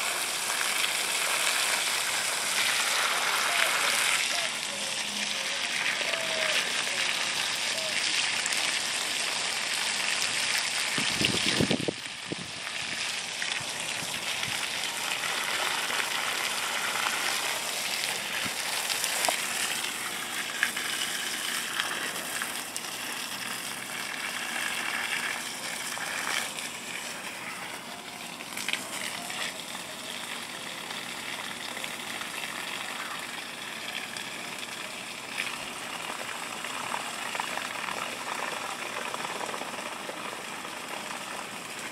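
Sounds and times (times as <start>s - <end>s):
water gushing from hose: 0.0s - 41.9s.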